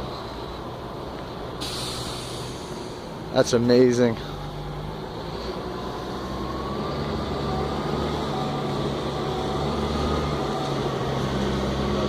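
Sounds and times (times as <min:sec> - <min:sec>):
engine running with whine: 0:00.0 - 0:12.0.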